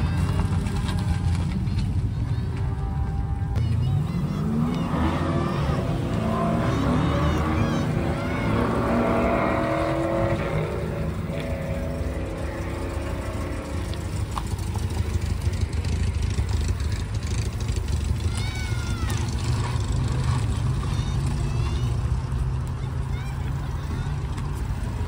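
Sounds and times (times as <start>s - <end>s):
car engines passing slowly: 0.0s - 25.0s
engine revving pulling away: 4.0s - 25.0s.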